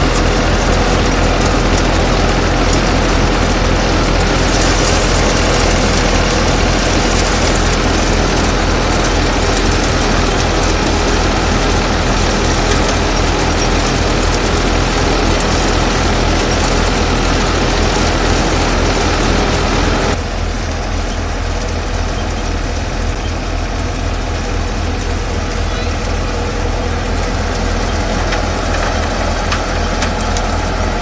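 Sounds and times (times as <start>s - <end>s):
diesel tractor engine: 0.0s - 31.0s
threshing machine rattle: 0.0s - 31.0s.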